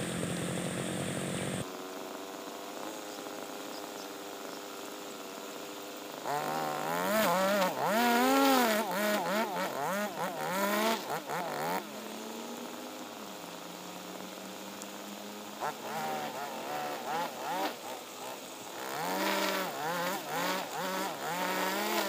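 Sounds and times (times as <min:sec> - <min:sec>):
brush cutter engine revving: 0:00.0 - 0:01.8, 0:02.5 - 0:22.0
nylon line cutting grass: 0:00.0 - 0:22.0.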